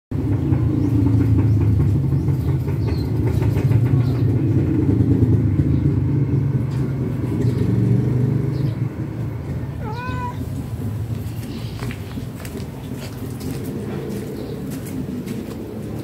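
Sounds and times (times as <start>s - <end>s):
loud low motor rumble: 0.1s - 16.0s.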